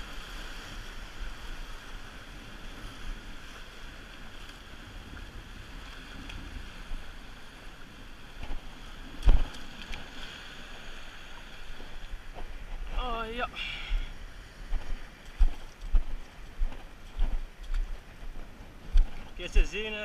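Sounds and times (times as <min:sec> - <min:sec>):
surf washing over rocks: 0:00.0 - 0:20.0
wind on microphone: 0:00.0 - 0:20.0.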